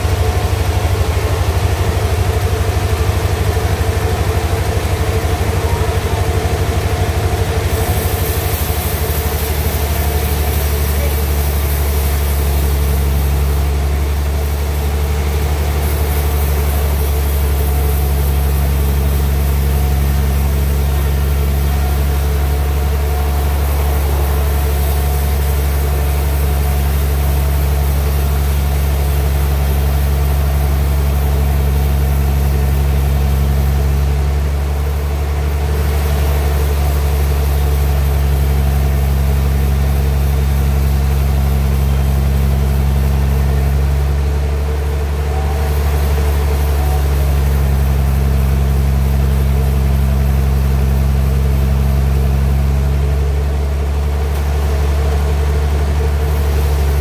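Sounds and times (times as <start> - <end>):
sawmill engine humming: 0.0 - 57.0.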